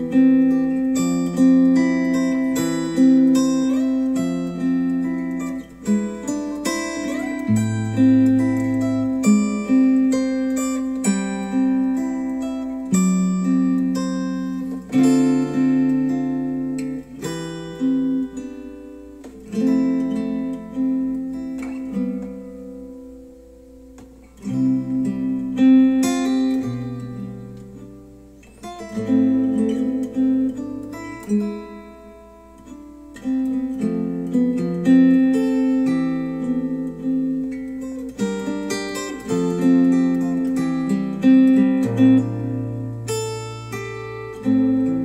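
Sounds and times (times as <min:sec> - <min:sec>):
acoustic guitar music over speakers: 0:00.0 - 0:45.0.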